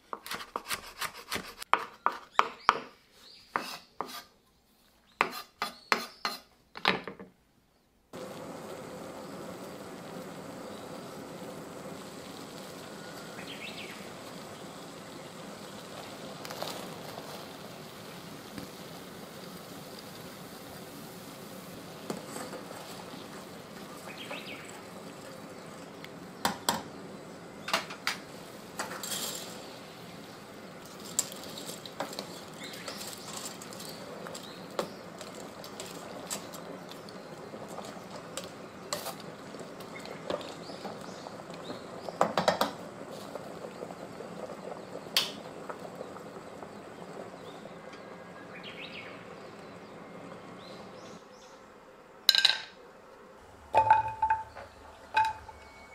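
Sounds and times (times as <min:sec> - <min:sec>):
water boiling in a pot: 0:08.1 - 0:55.9.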